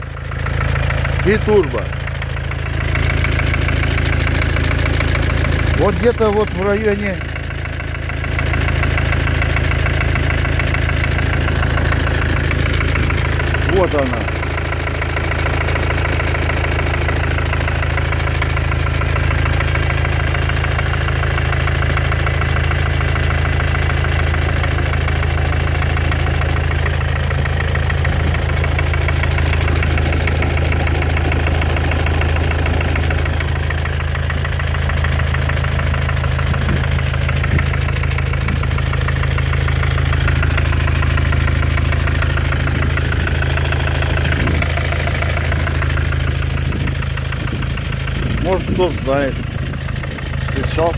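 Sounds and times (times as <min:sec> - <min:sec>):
diesel engine idling: 0:00.0 - 0:50.9
light steady engine knock: 0:00.0 - 0:50.9.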